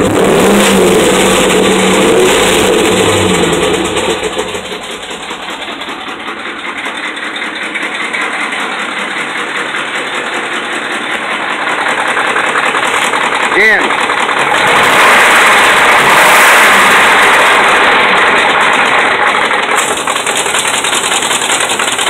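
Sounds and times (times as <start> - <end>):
engine idling with rapid knocking: 0.0 - 22.0.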